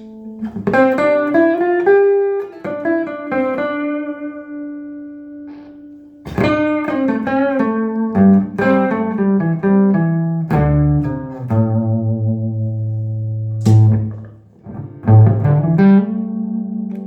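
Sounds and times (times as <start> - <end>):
electric guitar notes: 0.0 - 17.0.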